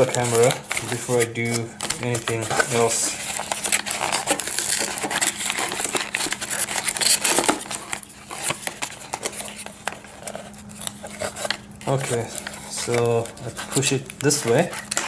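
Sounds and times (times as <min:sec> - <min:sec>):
cardboard packaging rustling: 0:00.0 - 0:15.0.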